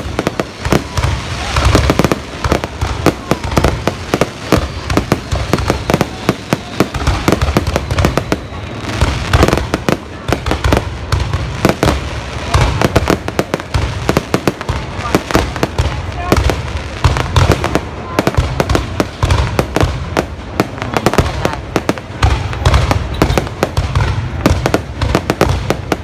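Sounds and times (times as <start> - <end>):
deep fireworks booms: 0.0 - 26.0
fireworks cracking and banging: 0.0 - 26.0.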